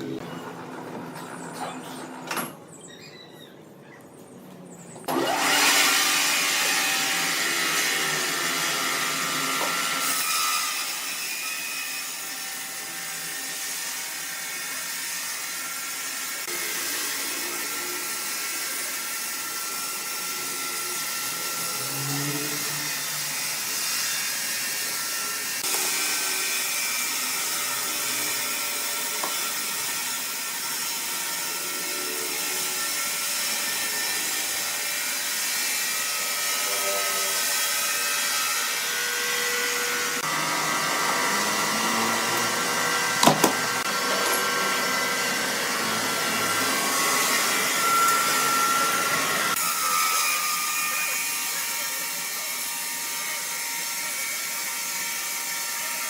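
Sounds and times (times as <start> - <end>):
power woodworking machine cutting: 0.0 - 2.4, 5.0 - 56.0.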